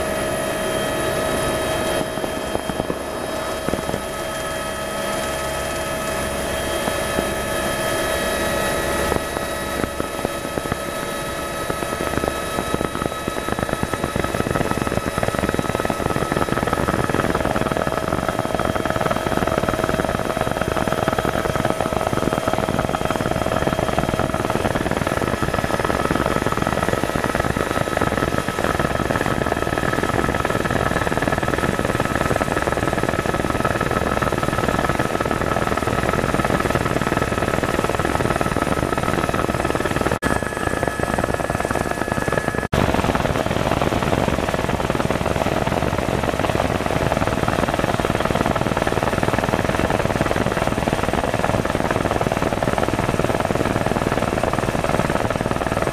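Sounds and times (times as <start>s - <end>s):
helicopter engine and rotors: 0.0s - 55.9s.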